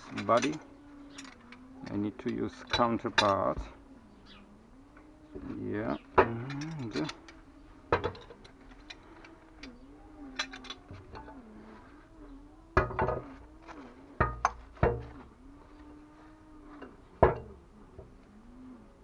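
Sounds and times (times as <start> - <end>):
faint wavering tone: 0.0 - 19.0.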